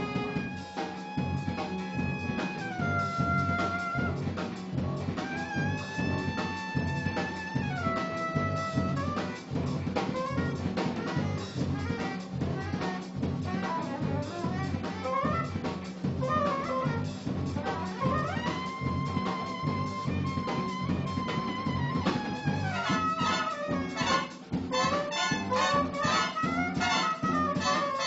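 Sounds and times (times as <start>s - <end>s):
jazz ensemble playing: 0.0s - 28.0s.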